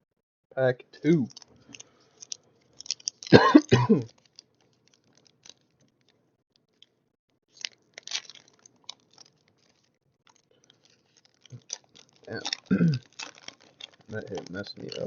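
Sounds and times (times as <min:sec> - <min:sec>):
foil wrapper crinkling and tearing: 0:01.2 - 0:15.0.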